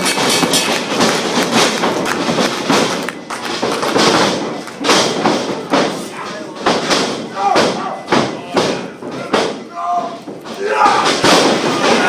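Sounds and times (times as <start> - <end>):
crowd noise: 0.0 - 12.0.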